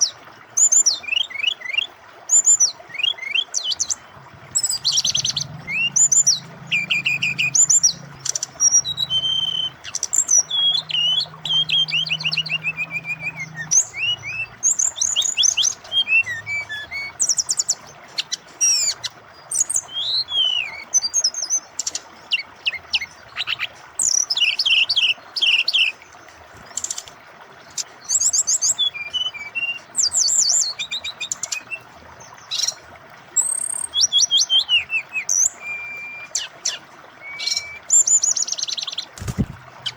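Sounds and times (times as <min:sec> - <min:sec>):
flowing water: 0:00.0 - 0:39.9
bird singing whistled phrases: 0:00.6 - 0:04.0, 0:04.6 - 0:26.0, 0:27.8 - 0:31.8, 0:33.4 - 0:39.9.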